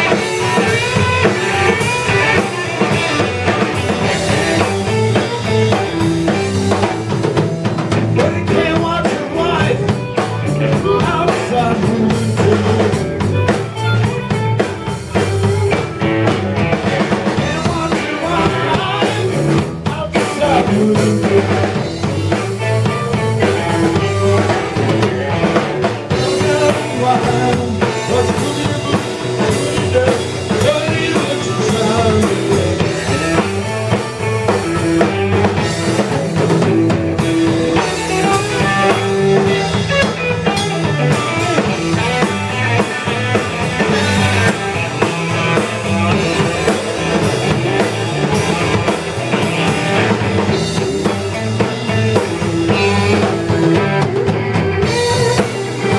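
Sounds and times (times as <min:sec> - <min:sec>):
drum kit steady beat: 0:00.0 - 0:55.9
electric guitars: 0:00.0 - 0:55.9.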